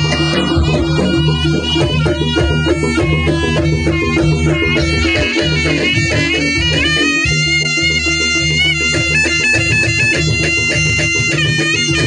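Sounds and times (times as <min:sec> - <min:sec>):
percussion ensemble with drums: 0:00.0 - 0:12.0.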